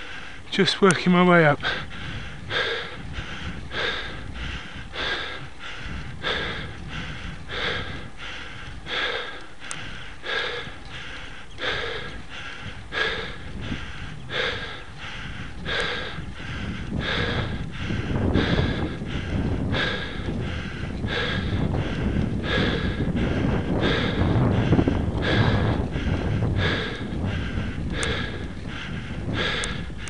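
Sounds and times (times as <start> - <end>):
person breathing hard: 0.0 - 0.5, 1.6 - 30.0.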